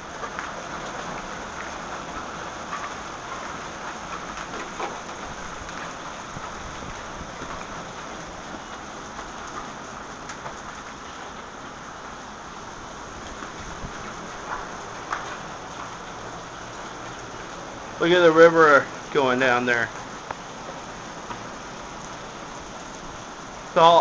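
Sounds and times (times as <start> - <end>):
rain pouring: 0.0 - 24.0.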